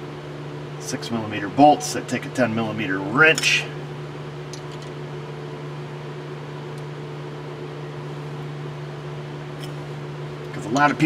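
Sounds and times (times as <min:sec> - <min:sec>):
fan machine humming: 0:00.0 - 0:11.0.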